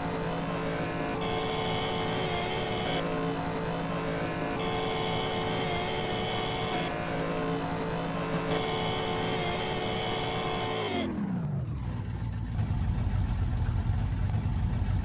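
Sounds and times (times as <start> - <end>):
cartoon car engine revving: 0.0 - 12.7.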